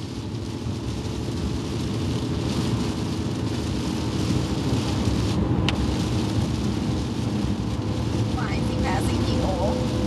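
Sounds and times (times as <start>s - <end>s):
rain hissing on windshield: 0.0s - 10.0s
road and engine rumble: 0.0s - 10.0s
windshield wipers sweeping: 0.0s - 10.0s.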